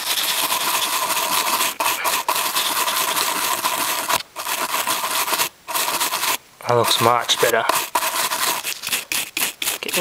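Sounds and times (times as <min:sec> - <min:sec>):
toothbrush scrubbing plastic knob: 0:00.0 - 0:10.0.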